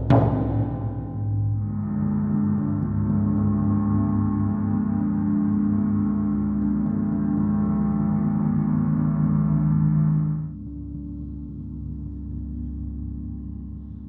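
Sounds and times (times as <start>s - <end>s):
ambient music with ringing tones: 0.0s - 14.0s
deep drone: 0.0s - 14.0s.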